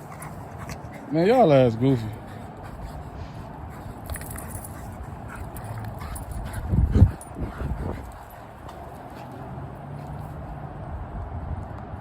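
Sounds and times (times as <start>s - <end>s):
light clicks and scuffs: 1.8s - 12.0s.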